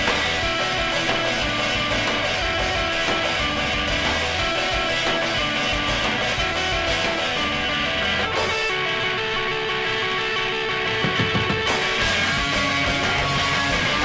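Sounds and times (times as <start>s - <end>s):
steady drum beat: 0.0s - 9.3s, 10.8s - 14.0s
guitar-led rock song: 0.0s - 14.0s.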